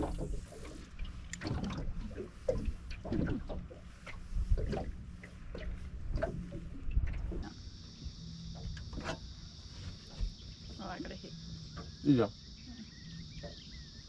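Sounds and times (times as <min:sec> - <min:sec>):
water slapping boat hull: 0:00.0 - 0:14.0.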